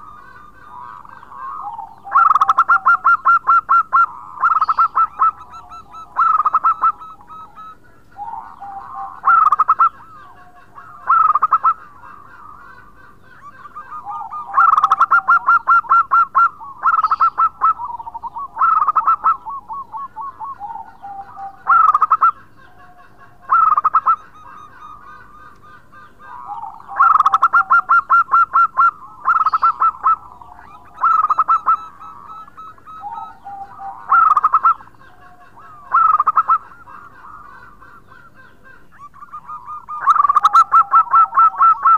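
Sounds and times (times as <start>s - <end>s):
dove cooing: 0.0s - 41.9s.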